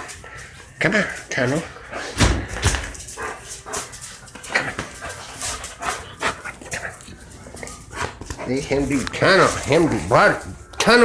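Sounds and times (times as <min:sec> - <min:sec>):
dogs making excited sounds: 0:00.0 - 0:11.0.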